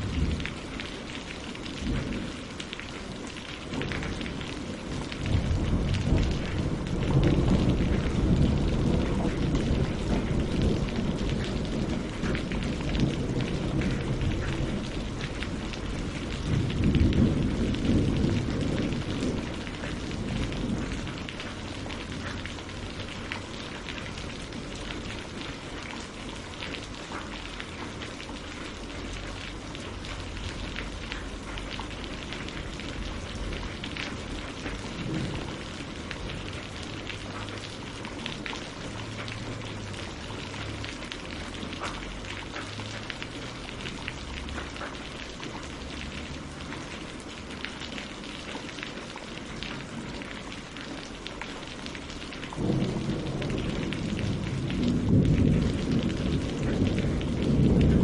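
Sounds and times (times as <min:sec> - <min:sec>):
rain on water and leaves: 0:00.0 - 0:58.0.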